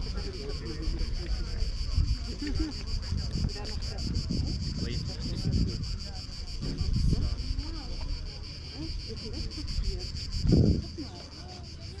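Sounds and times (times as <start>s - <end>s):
wind rumble on microphone: 0.0s - 11.2s
cicadas buzzing: 0.0s - 12.0s
faint voices: 0.0s - 12.0s.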